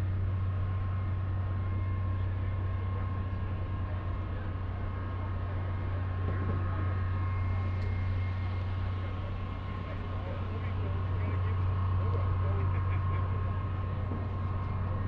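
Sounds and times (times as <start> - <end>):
faint high whine: 0.0 - 15.0
low mechanical hum: 0.0 - 15.0.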